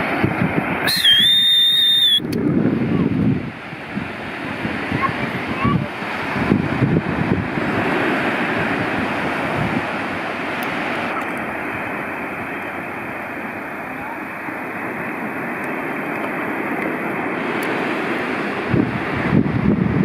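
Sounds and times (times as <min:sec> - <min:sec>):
waves breaking on a beach: 0:00.0 - 0:20.0
wind on microphone: 0:00.0 - 0:20.0.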